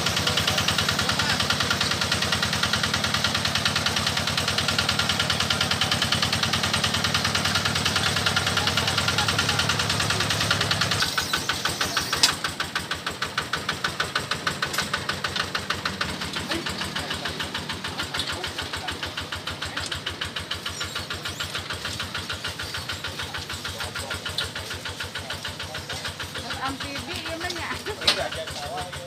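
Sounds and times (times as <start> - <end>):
diesel engine chugging: 0.0 - 29.0.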